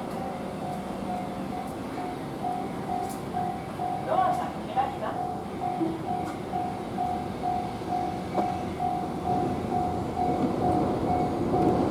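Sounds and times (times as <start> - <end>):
low rumble of trains and traffic: 0.0 - 11.9
level crossing warning bell: 0.2 - 11.9.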